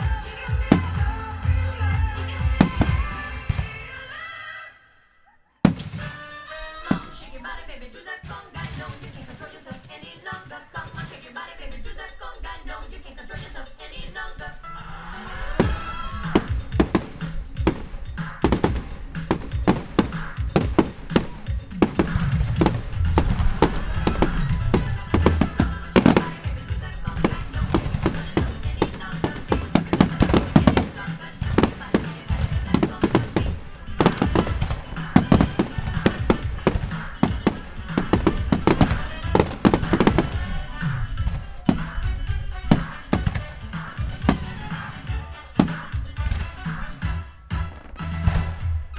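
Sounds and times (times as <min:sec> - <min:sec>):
fireworks banging: 0:00.0 - 0:04.0, 0:05.6 - 0:07.4, 0:08.2 - 0:11.1, 0:15.4 - 0:48.6
recorded music: 0:00.0 - 0:04.8, 0:05.7 - 0:48.9.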